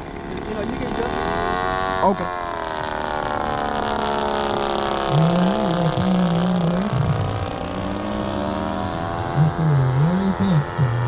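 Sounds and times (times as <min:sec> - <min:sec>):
low wavering drone: 0:00.0 - 0:11.0
model airplane engine: 0:00.0 - 0:11.0.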